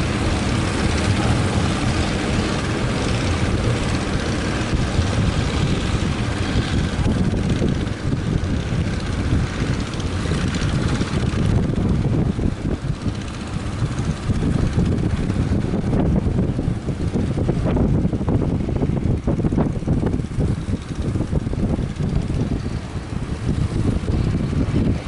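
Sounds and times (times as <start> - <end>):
boat engine running: 0.0 - 25.0
wind buffeting microphone: 0.0 - 25.0.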